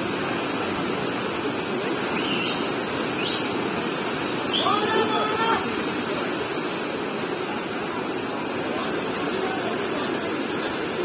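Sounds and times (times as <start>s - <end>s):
river rushing in whitewater: 0.0s - 11.0s.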